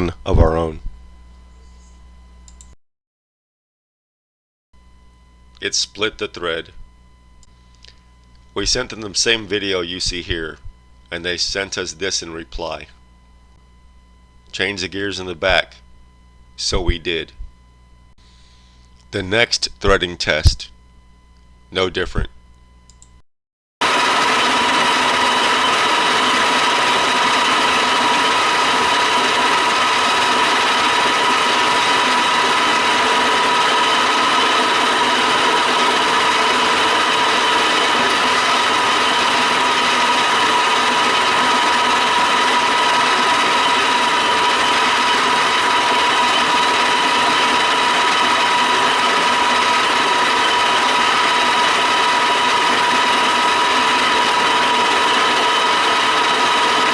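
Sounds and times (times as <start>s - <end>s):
lathe humming with whine: 4.8s - 23.1s, 23.8s - 56.9s.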